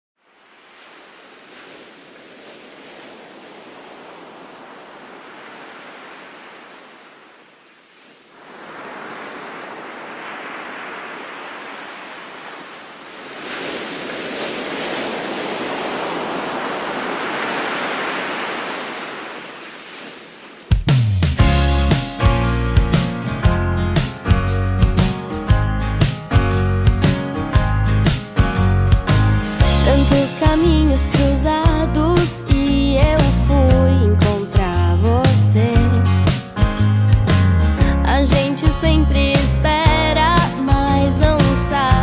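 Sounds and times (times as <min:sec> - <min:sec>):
ocean surf breaking on beach: 0:00.2 - 0:22.3, 0:29.1 - 0:42.0.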